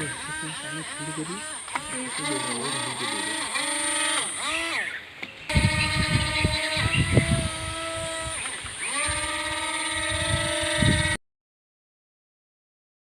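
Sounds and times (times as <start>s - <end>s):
small motor whine: 0.0s - 11.2s.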